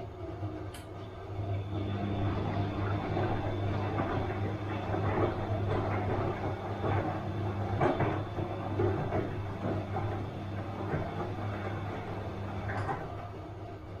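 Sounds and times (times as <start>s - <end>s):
washing machine running: 0.0s - 14.0s.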